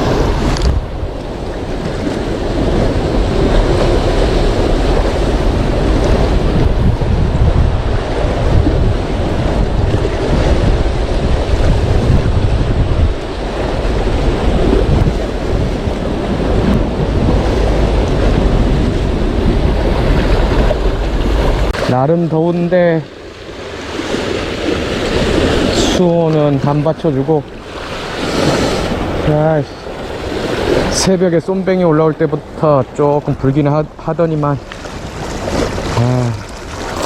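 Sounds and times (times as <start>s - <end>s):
sea waves washing: 0.0s - 37.0s
wind buffeting microphone: 0.0s - 37.0s.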